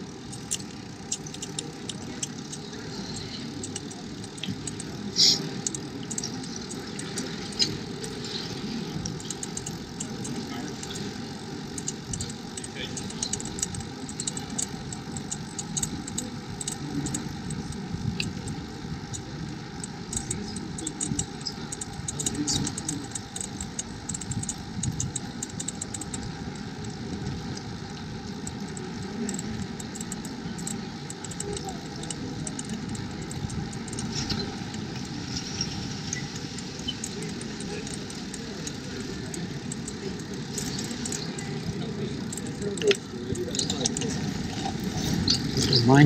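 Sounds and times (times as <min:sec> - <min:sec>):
bicycle rolling over paving: 0:00.0 - 0:46.0
small rattling clicks: 0:00.0 - 0:46.0.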